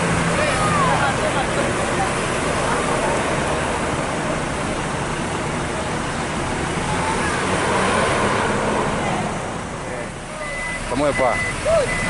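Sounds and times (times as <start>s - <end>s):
tyre and road noise: 0.0s - 12.0s
vehicle engine hum: 0.0s - 12.0s.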